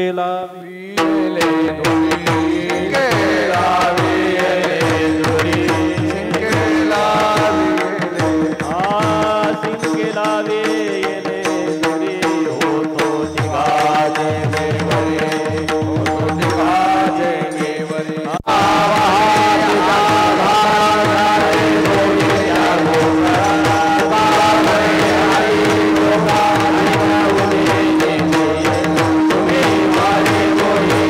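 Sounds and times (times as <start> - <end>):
fast hand-drum strokes: 1.0 - 31.0.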